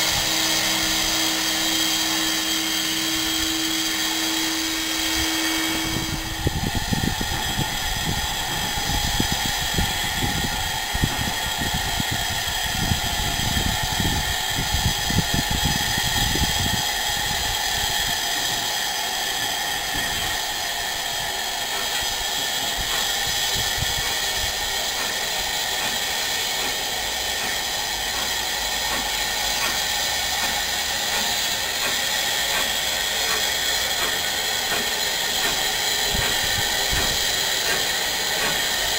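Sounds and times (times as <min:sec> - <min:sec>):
hiss of escaping steam: 0:00.0 - 0:38.9.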